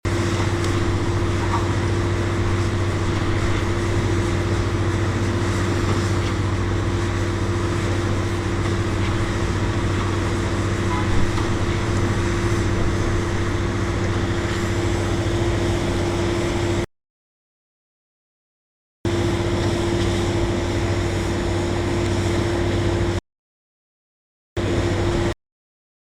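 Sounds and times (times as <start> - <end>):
heavy machinery engine drone: 0.1 - 16.9, 19.1 - 23.2, 24.6 - 25.4.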